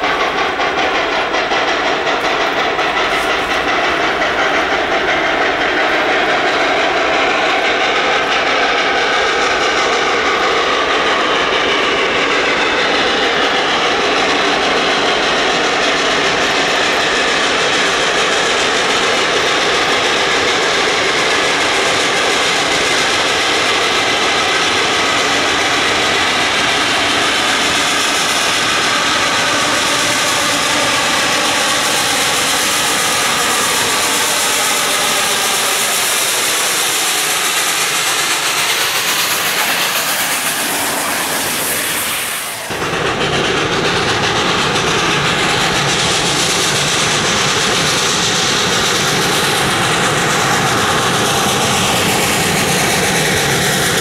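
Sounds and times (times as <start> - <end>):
steam locomotive exhaust rushing: 0.0 - 54.0.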